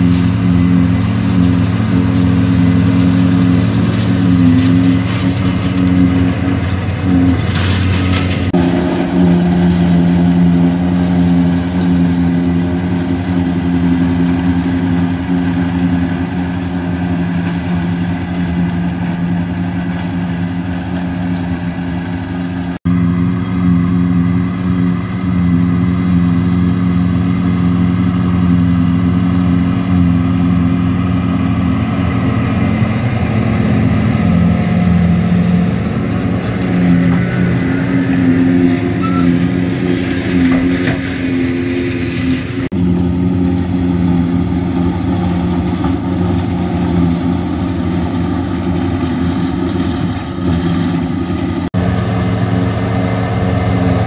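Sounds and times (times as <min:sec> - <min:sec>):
tractor engines and forage harvester drone: 0:00.0 - 0:54.0.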